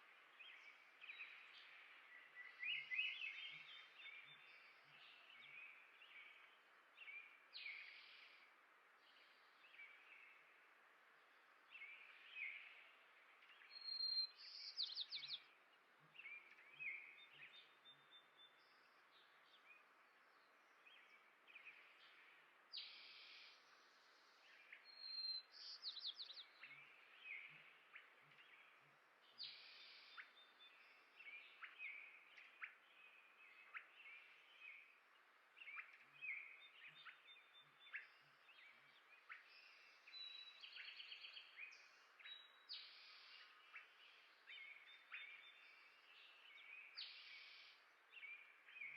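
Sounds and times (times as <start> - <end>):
faint steady hiss: 0.0 - 48.9
songbirds chirping and trilling: 0.0 - 48.9.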